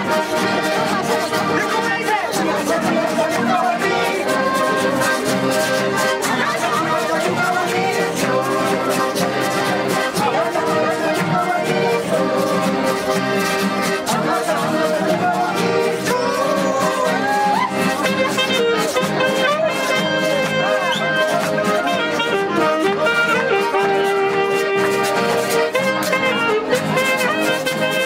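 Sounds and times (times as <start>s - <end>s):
button accordion chords: 0.0s - 28.0s
strummed acoustic guitars: 0.0s - 28.0s.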